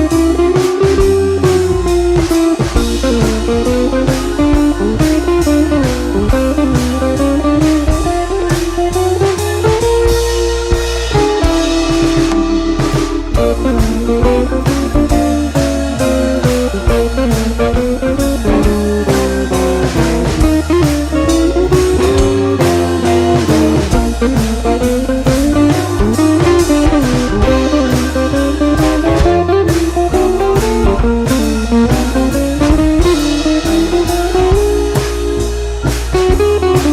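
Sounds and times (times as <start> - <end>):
blues guitar music with drums: 0.0 - 36.9.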